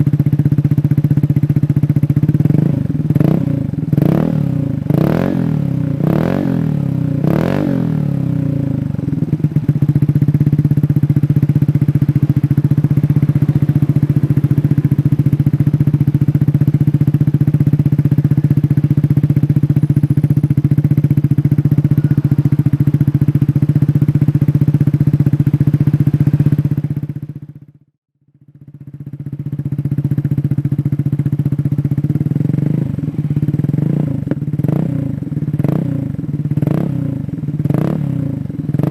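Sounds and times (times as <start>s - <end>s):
motorcycle throttle blips: 0.0s - 27.8s, 28.5s - 38.9s
motorcycle exhaust idling: 0.0s - 38.9s
motorcycle revving: 0.0s - 38.9s.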